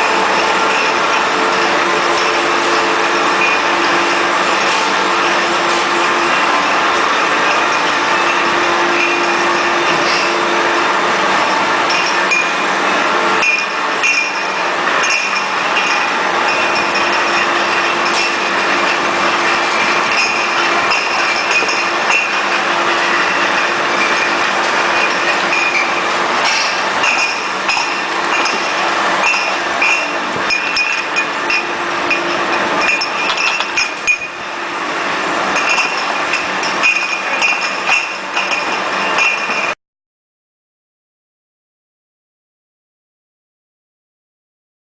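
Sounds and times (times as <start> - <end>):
glass bottles clinking: 0.0 - 34.6, 35.3 - 39.8
bottle washing machine running: 0.0 - 39.8.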